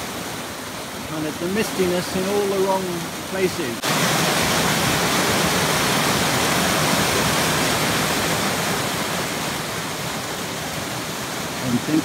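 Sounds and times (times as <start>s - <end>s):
rushing stream and waterfalls: 0.0s - 12.0s.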